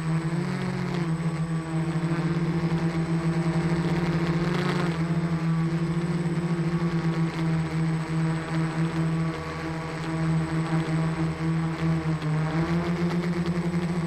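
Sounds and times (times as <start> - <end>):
model aircraft motors humming: 0.0 - 14.0.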